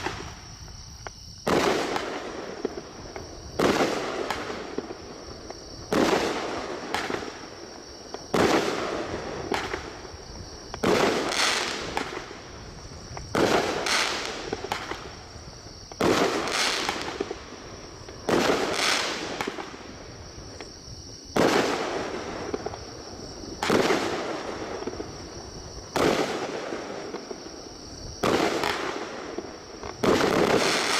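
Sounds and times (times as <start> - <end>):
firework bangs with crackle: 0.0 - 30.9.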